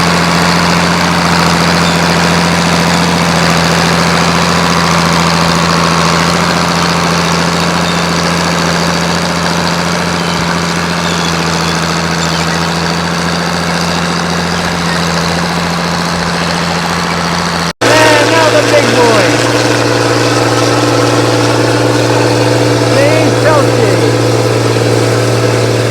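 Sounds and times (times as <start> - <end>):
tractor engine running loudly: 0.0 - 25.9.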